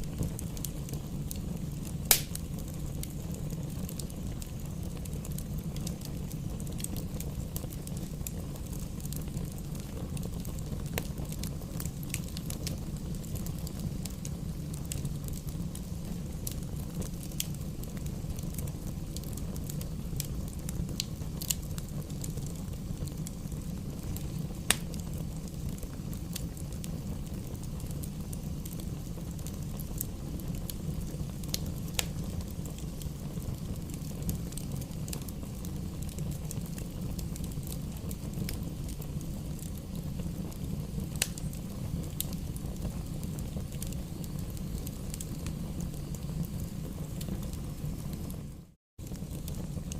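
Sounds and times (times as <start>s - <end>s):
fire crackles and pops: 0.0s - 49.9s
fire flame rumble: 0.0s - 49.9s.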